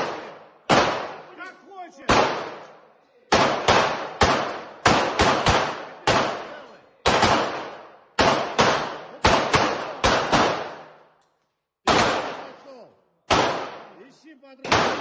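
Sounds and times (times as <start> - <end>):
pistol shots echoing indoors: 0.0 - 11.2, 11.8 - 15.0.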